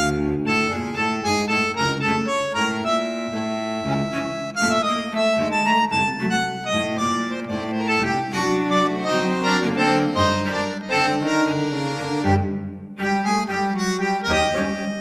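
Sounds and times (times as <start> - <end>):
instrumental accompaniment: 0.0 - 15.0
reedy wind instrument melody: 0.0 - 15.0.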